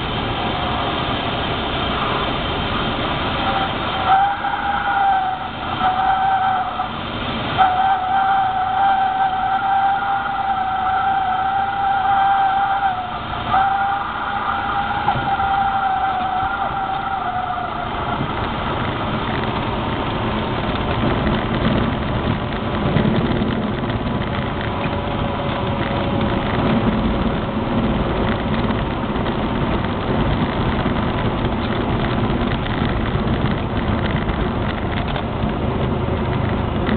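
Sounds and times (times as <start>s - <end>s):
airframe and wheels rushing: 0.0s - 36.9s
airplane engine running: 0.0s - 36.9s.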